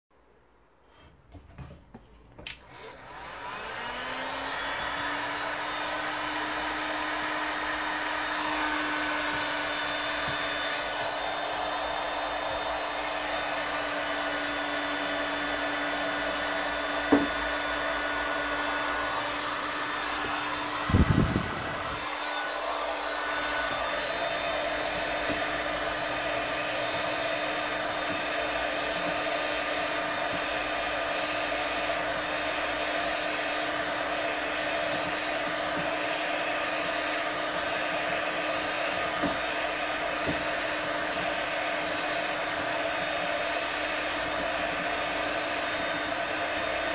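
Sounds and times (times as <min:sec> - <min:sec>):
heat gun blowing hot air: 0:02.4 - 0:46.9.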